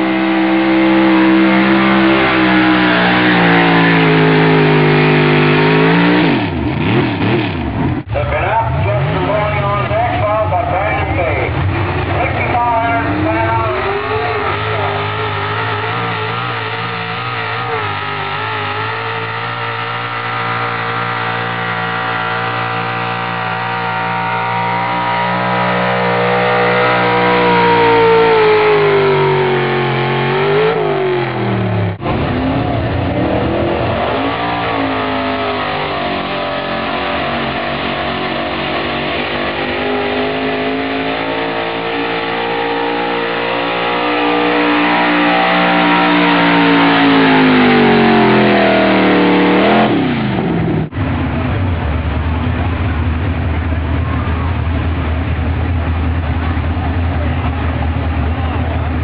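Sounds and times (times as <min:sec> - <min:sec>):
truck engine at high revs: 0:00.0 - 0:59.0.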